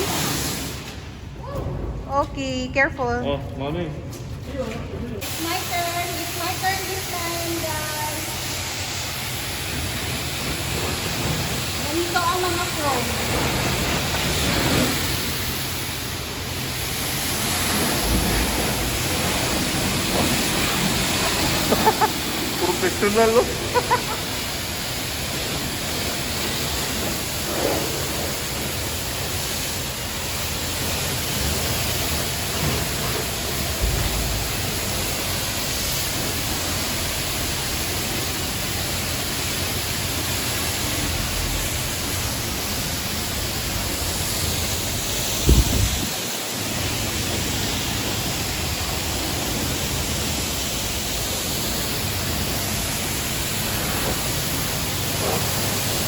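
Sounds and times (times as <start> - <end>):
pressure washer spraying water: 0.0 - 1.4, 5.2 - 56.0.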